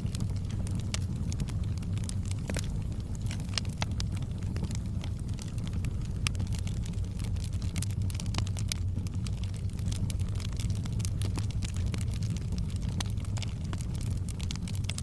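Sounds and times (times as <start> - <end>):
low fire rumble: 0.0 - 15.0
wood fire crackling: 0.0 - 15.0.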